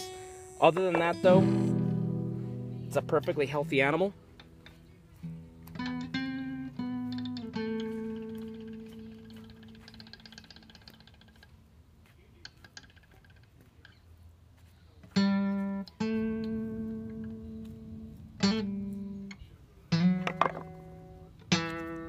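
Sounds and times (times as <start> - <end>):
plucked guitar music: 0.0 - 11.3, 15.2 - 22.0.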